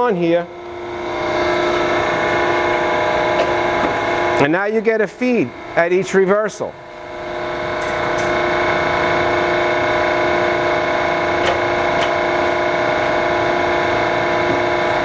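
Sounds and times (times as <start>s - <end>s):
grinding machine hum: 0.0s - 15.0s.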